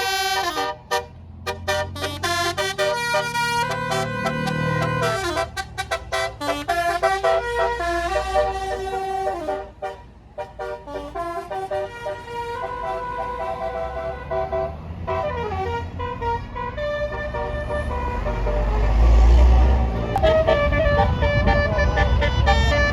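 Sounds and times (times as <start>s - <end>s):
low bus engine rumble: 0.0s - 22.9s
musical air horn playing a tune: 0.0s - 22.9s.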